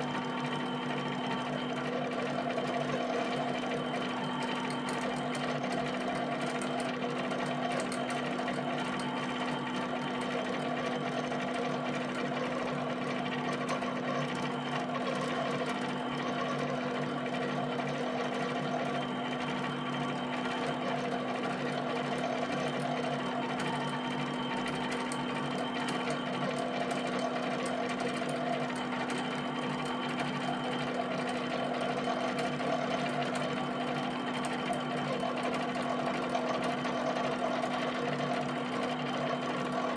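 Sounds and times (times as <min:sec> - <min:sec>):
plotter motors humming and whirring: 0:00.0 - 0:39.9
fast ticks of plotter pen: 0:00.1 - 0:39.9.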